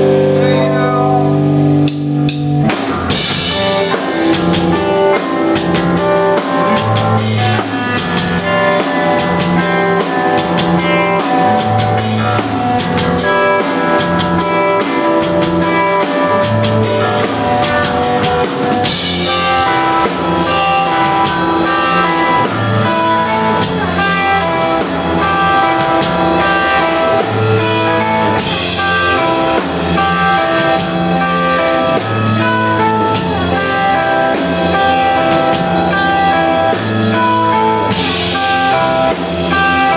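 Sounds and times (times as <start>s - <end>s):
sustained electric guitar notes: 0.0s - 39.9s
drums and cymbals: 1.8s - 39.9s.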